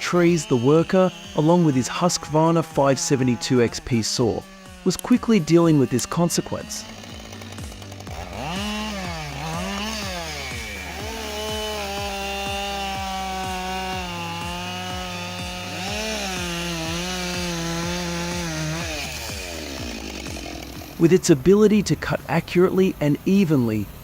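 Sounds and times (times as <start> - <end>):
chainsaw revving and cutting wood: 0.0 - 24.0.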